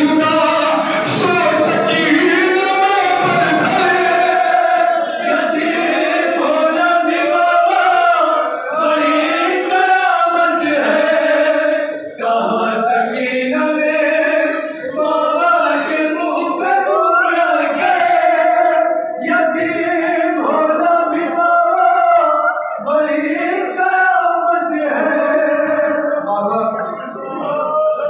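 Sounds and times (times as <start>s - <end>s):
men chanting in unison: 0.0s - 26.3s.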